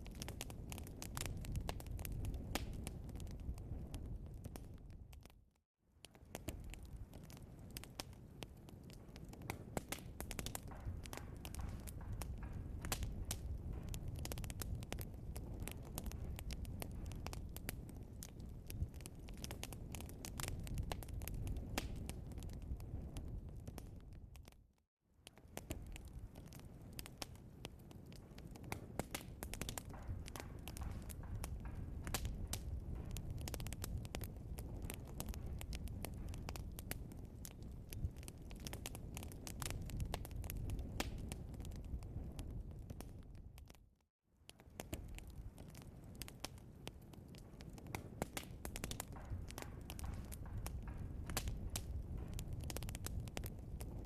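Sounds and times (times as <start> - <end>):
flames low rumble: 0.0 - 54.0
logs crackling and popping: 0.0 - 54.0.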